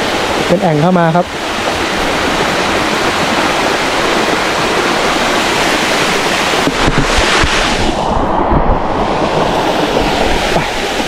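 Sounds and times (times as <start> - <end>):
waterfall rushing: 0.0 - 11.0
low bumps: 1.6 - 11.0.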